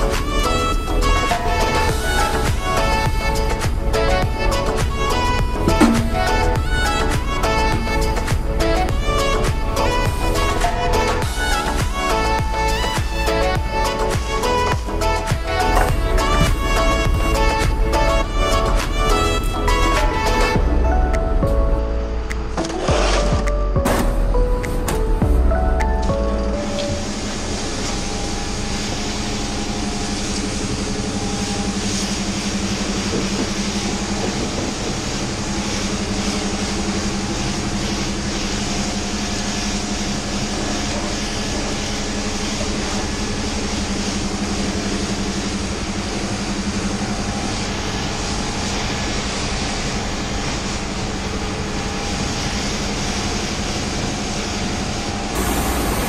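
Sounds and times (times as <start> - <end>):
pressure washer motor hum: 0.0 - 20.6, 26.2 - 56.0
pressure washer spray hissing: 0.0 - 20.6, 26.6 - 56.0.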